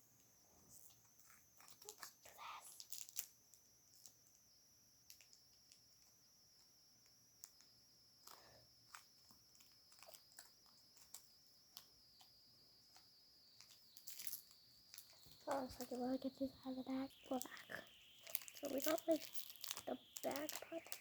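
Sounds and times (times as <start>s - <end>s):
steady high-pitched whine: 0.0s - 21.0s
faint clicks and rustles of package: 0.2s - 21.0s.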